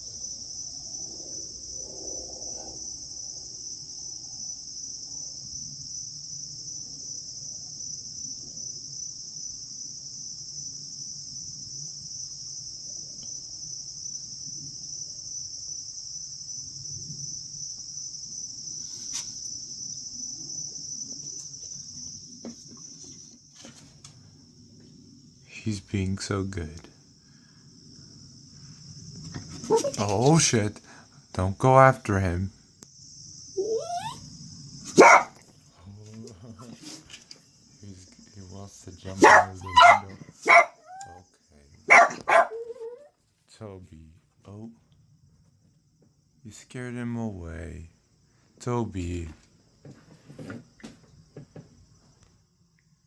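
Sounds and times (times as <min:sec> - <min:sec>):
insects trilling: 0:00.0 - 0:52.3.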